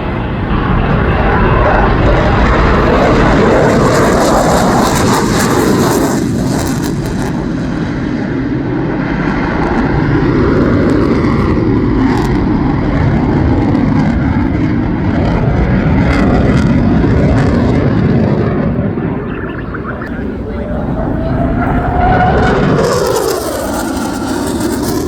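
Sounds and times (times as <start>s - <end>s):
fighter jet engine rumble: 0.0s - 25.0s.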